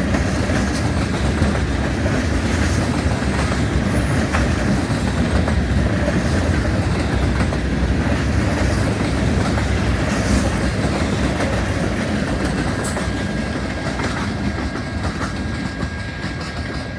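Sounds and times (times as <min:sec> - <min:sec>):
freight cars rolling on rails: 0:00.0 - 0:16.9.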